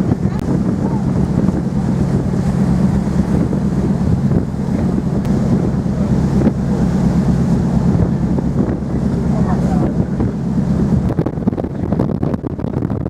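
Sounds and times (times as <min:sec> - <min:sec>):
ship engines droning: 0:00.0 - 0:12.8
wind buffeting microphone: 0:00.0 - 0:13.0.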